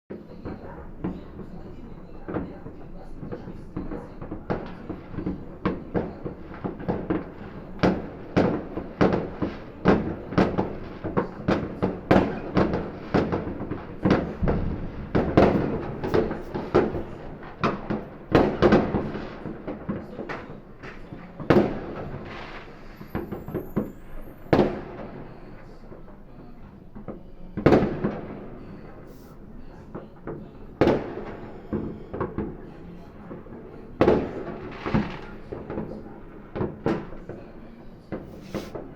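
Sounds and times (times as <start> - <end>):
fireworks bangs: 0.2 - 38.9.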